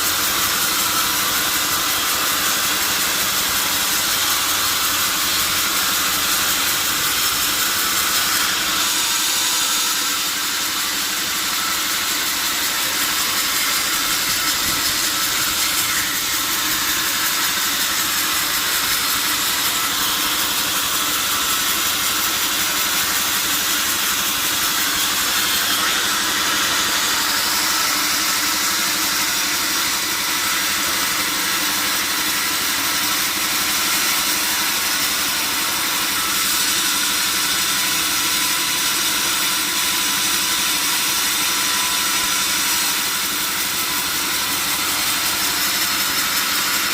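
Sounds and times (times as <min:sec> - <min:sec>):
sawmill saw whining: 0:00.0 - 0:46.9.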